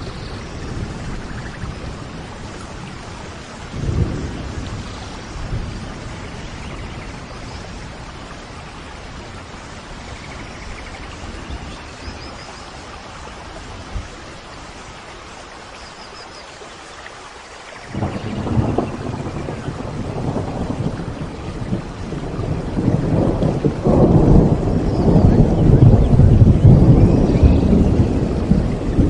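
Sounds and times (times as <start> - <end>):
thunder rumbling: 0.0 - 14.5, 17.9 - 29.0
steady rain falling: 0.0 - 29.0.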